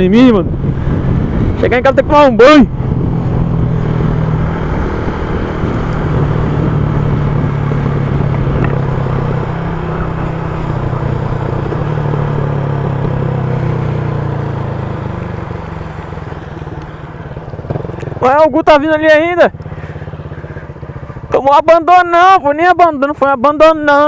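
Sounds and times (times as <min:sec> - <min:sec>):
motorcycle engine cruising: 0:00.0 - 0:24.0
wind and wet road noise: 0:00.0 - 0:24.0.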